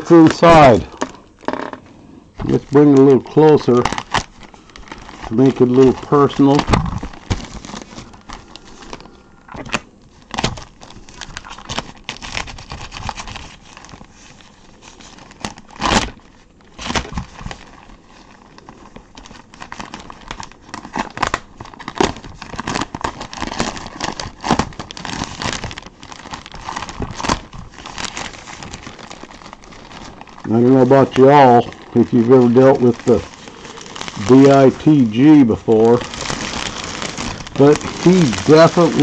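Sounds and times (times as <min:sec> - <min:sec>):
paper wrapping tearing and crumpling: 0:00.0 - 0:01.6, 0:02.4 - 0:39.0.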